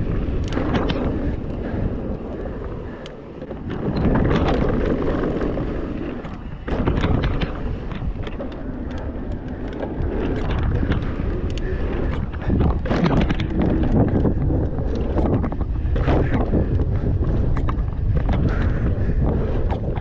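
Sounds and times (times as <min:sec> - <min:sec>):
bike clicks and rattles: 0:00.0 - 0:20.0
bike tyres rumbling over dirt: 0:00.0 - 0:20.0.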